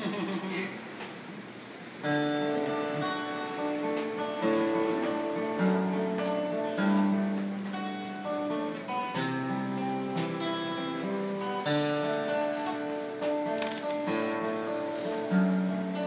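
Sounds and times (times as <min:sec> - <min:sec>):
acoustic guitar strumming: 0:01.9 - 0:16.0.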